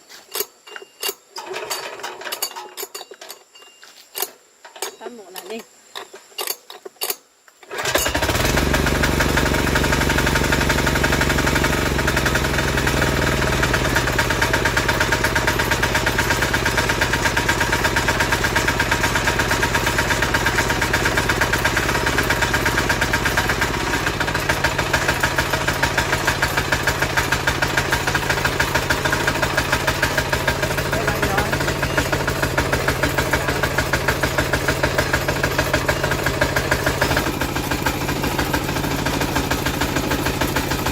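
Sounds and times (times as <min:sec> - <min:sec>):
plow engine pulsing: 0:07.8 - 0:40.9.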